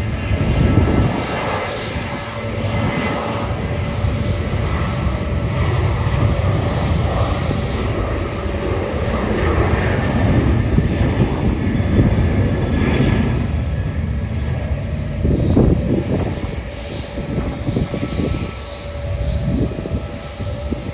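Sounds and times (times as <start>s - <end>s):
jet engines roaring: 0.0s - 20.9s.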